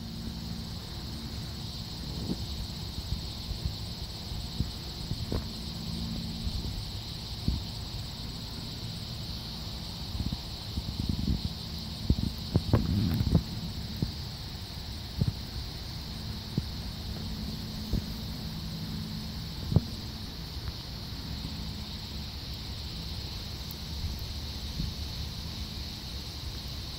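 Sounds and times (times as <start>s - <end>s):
low rumbling noise: 0.0s - 26.6s
insect drone: 0.0s - 26.9s.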